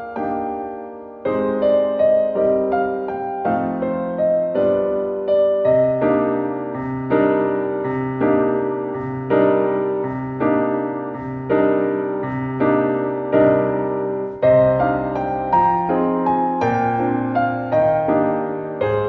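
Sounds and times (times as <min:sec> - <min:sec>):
piano playing gentle chords: 0:00.0 - 0:19.0.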